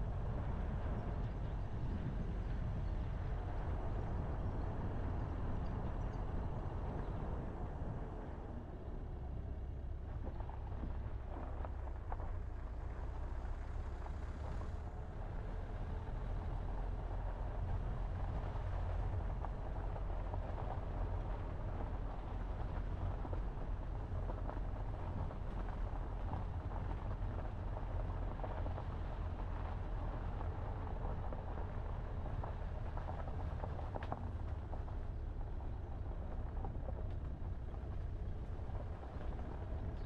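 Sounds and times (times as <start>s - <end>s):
car tyres and engine rumble: 0.0s - 40.0s.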